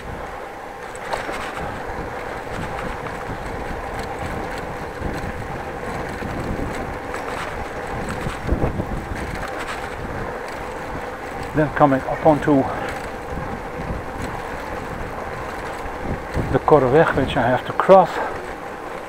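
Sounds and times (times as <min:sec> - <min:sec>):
bicycle tyre rumble on bricks: 0:00.0 - 0:19.0
wind buffeting microphone: 0:00.0 - 0:19.0
bicycle rattling clicks: 0:00.8 - 0:19.0.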